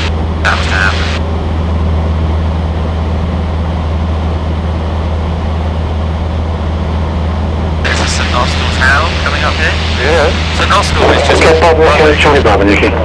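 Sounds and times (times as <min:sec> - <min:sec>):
aircraft engine drone in cockpit: 0:00.0 - 0:13.0.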